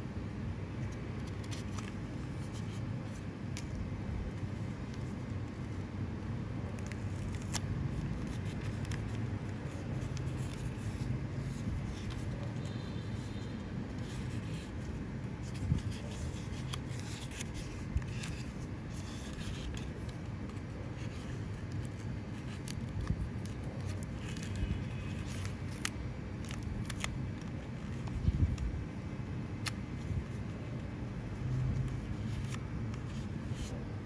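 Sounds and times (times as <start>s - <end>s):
steady low background hum: 0.0s - 34.0s
paper rustling and crinkling: 0.7s - 34.0s.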